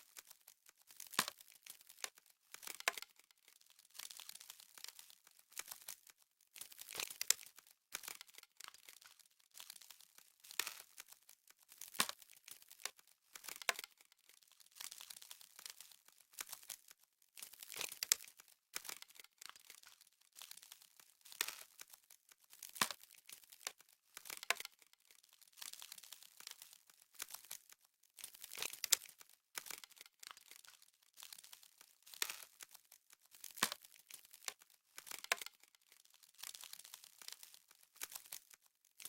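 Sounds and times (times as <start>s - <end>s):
frost crackling and crunching: 0.0s - 39.0s.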